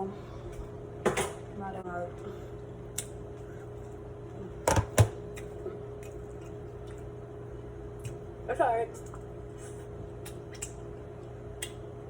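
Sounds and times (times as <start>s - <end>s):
kitchen appliance humming: 0.0s - 10.1s.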